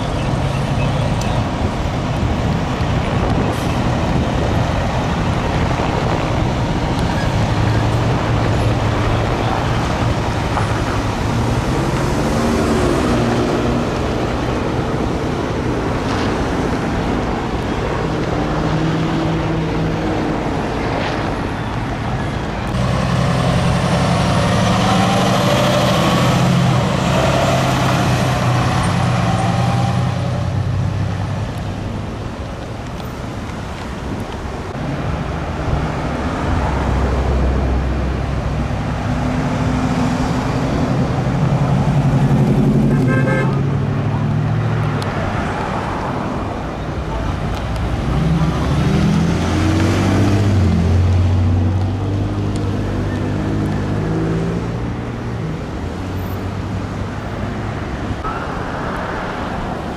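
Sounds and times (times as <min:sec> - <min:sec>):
fire engines driving past: 0:00.0 - 0:59.9
road and traffic noise: 0:00.0 - 0:59.9.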